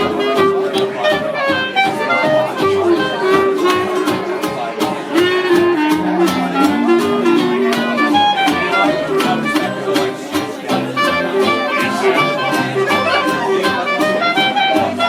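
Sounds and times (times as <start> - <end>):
fiddle melody: 0.0 - 15.0
live country band: 0.0 - 15.0.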